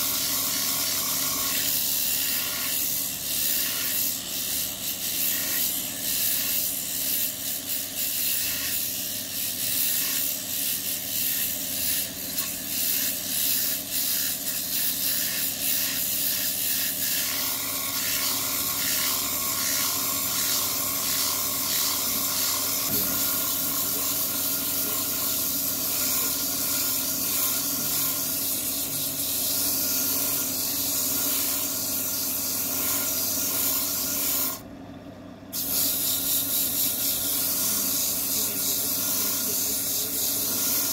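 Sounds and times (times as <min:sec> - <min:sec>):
sandpaper rubbing spinning wood: 0:00.0 - 0:34.6, 0:35.6 - 0:40.9.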